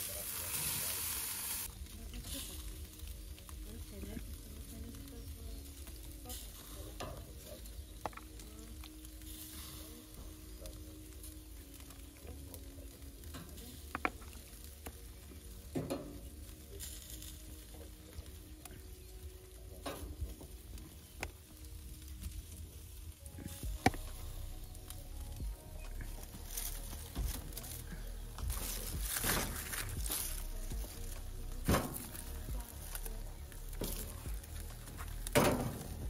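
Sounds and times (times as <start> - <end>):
meat sizzling on a grill: 0.0 - 36.0.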